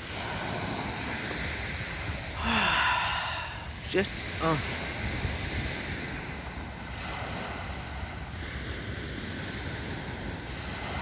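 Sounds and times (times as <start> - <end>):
waves washing onto pebble beach: 0.0 - 11.0
wind buffeting microphone: 0.0 - 11.0.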